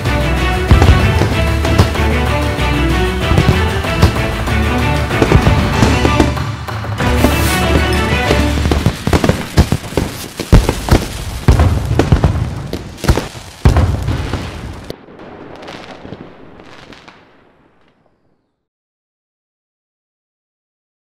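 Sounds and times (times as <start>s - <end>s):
fireworks booming: 0.0s - 18.4s.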